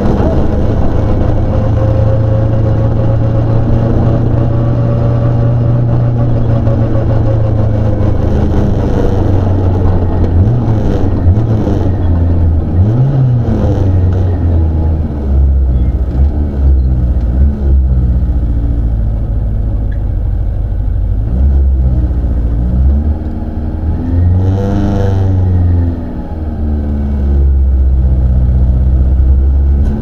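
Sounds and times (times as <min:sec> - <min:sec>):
engine revving: 0:00.0 - 0:19.4, 0:21.1 - 0:30.0
car engine running at low revs: 0:00.0 - 0:30.0.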